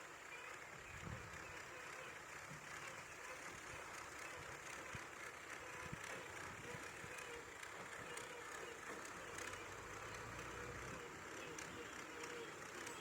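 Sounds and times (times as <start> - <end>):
motorbike engine and road noise: 0.0 - 13.0.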